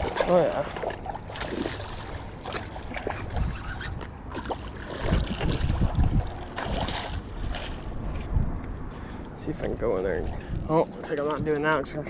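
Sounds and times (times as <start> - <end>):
water splashes and knocks: 0.0 - 8.2, 9.6 - 12.0
wind rumble on microphone: 0.0 - 12.0.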